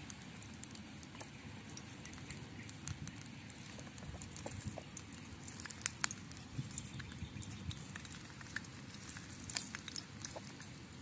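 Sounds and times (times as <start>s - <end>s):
crackles and pops: 0.0s - 11.0s
garlic frying in oil: 0.0s - 11.0s.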